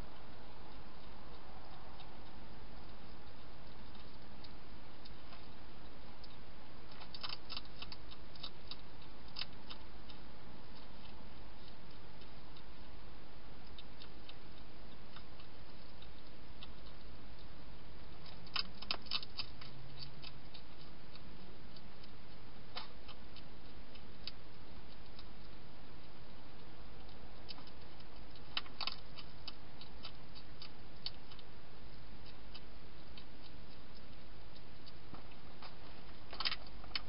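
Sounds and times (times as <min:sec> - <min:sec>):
hedgehog crunching dry food: 0:00.2 - 0:37.0.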